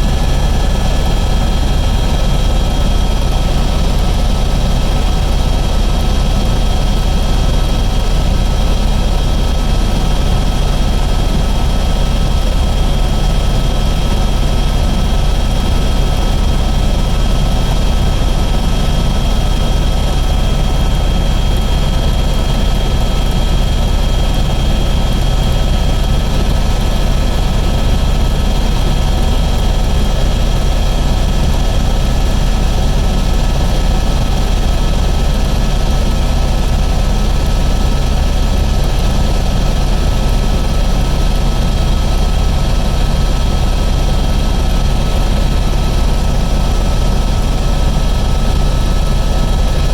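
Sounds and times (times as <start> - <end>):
helicopter rotor and engine drone: 0.0 - 49.9.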